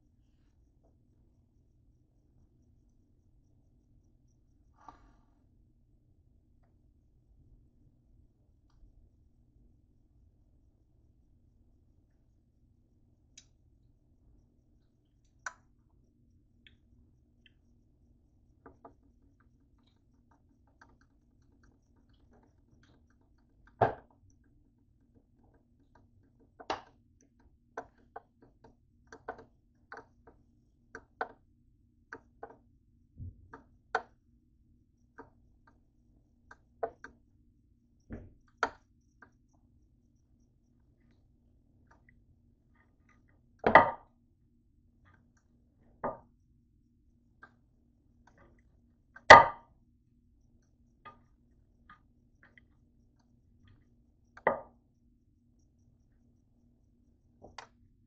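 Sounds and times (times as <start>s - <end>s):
faint low hum: 0.0s - 58.0s.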